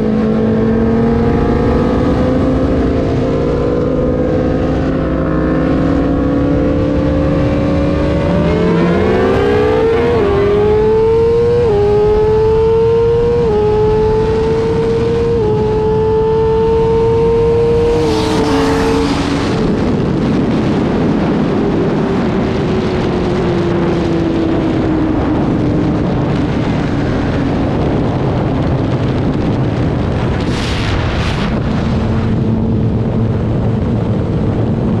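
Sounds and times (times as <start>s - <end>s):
motorcycle engine at speed: 0.0s - 35.0s
wind rush: 0.0s - 35.0s.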